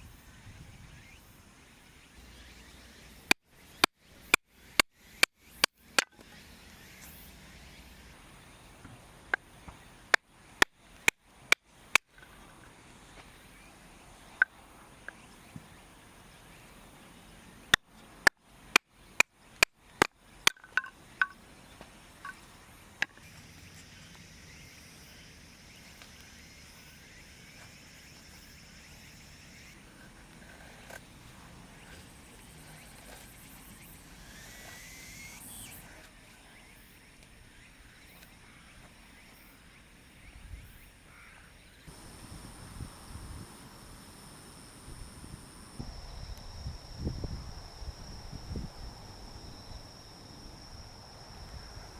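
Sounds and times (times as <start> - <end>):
faint outdoor background: 0.0 - 51.9.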